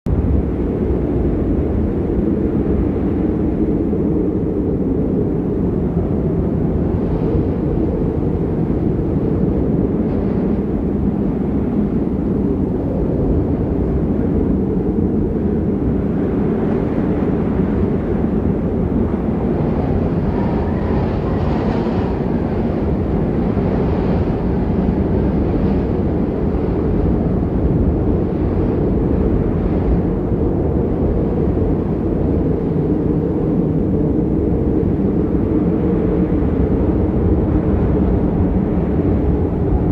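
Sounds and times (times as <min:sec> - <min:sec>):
strong wind buffeting microphone: 0:00.1 - 0:39.9.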